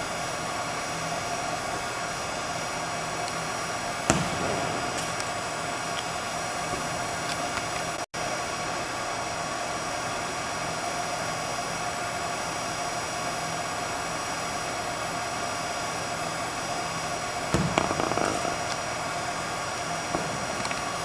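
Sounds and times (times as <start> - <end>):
air handling hum and hiss: 0.0 - 21.0.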